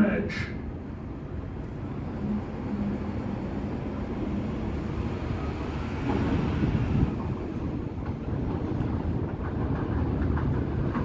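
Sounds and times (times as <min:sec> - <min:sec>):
distant subway train rumble: 0:00.0 - 0:11.0.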